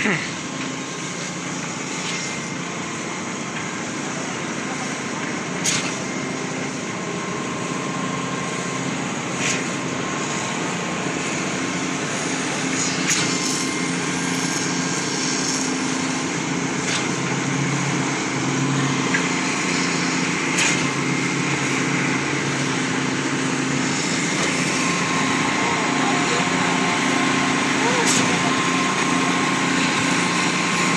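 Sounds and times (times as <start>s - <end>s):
construction machinery engine running: 0.0s - 30.9s.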